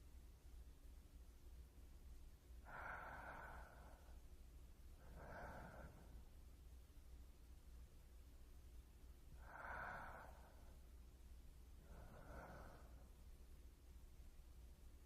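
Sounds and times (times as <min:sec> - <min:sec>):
close-miked breaths: 0:02.2 - 0:15.0.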